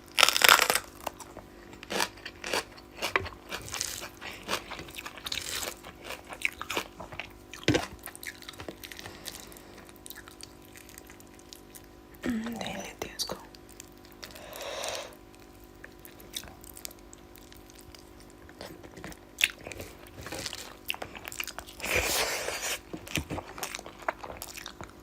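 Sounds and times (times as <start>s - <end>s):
person chewing crunchy food: 0.0s - 12.1s, 13.5s - 25.0s.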